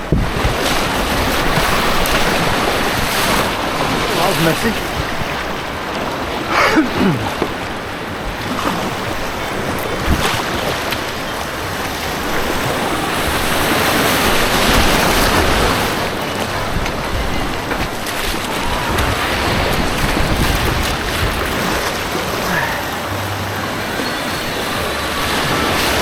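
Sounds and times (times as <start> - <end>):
rushing white water: 0.0 - 26.0
wind buffeting microphone: 0.0 - 26.0.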